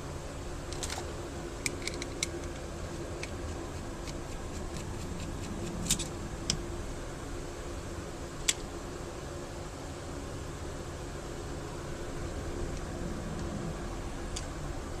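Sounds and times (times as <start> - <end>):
fan-like room hum: 0.0 - 15.0.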